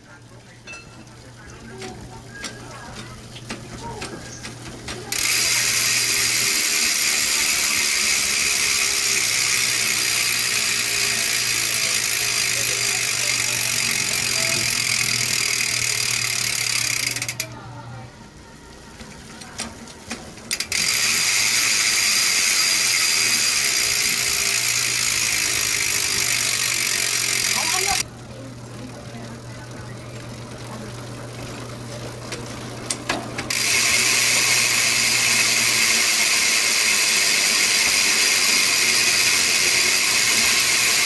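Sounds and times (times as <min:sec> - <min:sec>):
bicycle freehub buzzing: 0:00.0 - 0:41.0
freehub clicks: 0:01.7 - 0:17.6, 0:18.9 - 0:28.1, 0:31.6 - 0:41.0.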